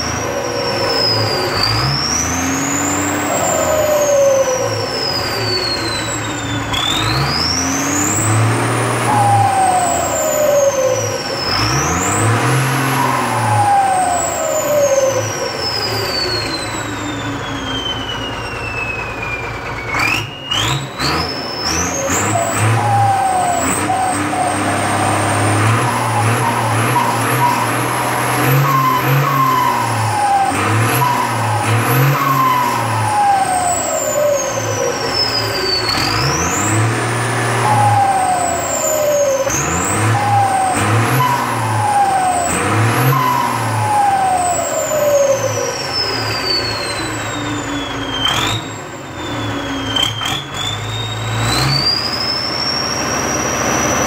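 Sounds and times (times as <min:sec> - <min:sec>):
tractor engine revving: 0:00.0 - 0:54.0
turbo whistle: 0:00.0 - 0:54.0.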